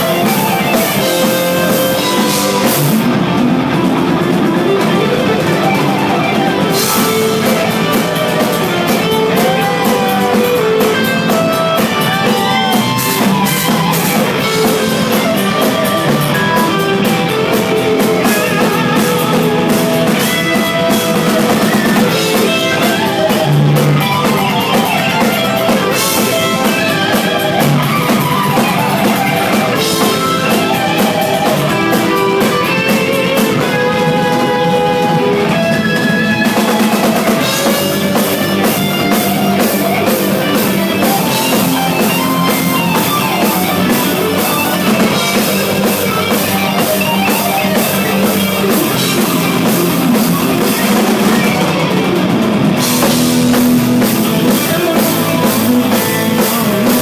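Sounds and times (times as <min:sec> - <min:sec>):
electric guitar solo: 0:00.0 - 0:57.0
rock drum kit: 0:00.0 - 0:57.0.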